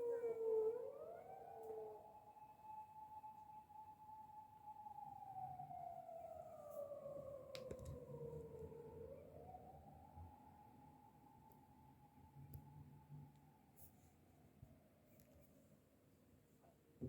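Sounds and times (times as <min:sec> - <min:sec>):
distant emergency siren: 0:00.0 - 0:14.9.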